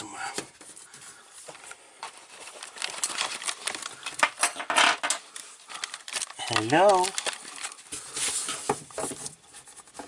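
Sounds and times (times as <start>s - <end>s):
clicks and clatter of rummaging: 1.6s - 10.0s.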